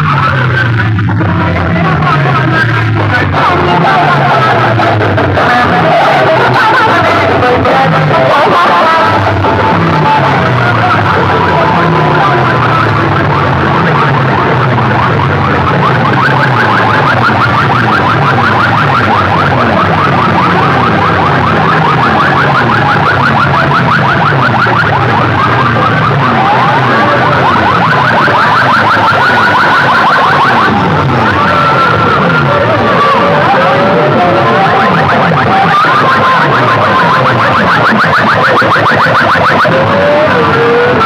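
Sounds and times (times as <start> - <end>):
warbling siren alarm tone: 0.0 - 41.0.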